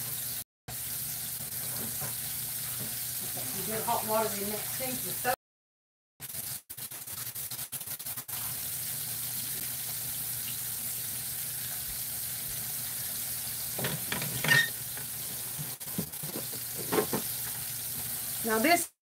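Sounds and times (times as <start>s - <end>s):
steaks sizzling in skillet: 0.0s - 5.4s, 6.2s - 18.8s.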